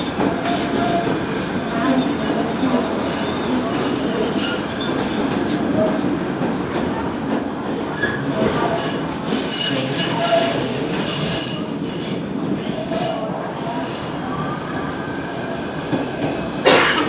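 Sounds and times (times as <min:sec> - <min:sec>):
rumble of wheels on rail: 0:00.0 - 0:17.0.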